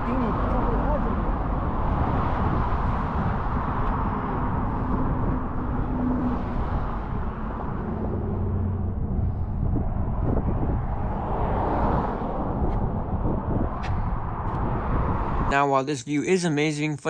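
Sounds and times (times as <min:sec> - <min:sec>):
wind buffeting microphone: 0:00.0 - 0:15.6
faint traffic engine hum: 0:00.0 - 0:17.0.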